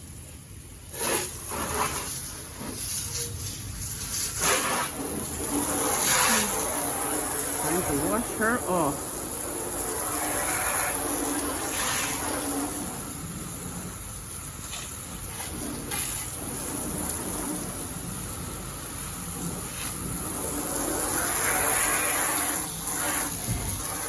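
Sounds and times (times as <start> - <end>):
garden hose spraying water: 0.0 - 24.0.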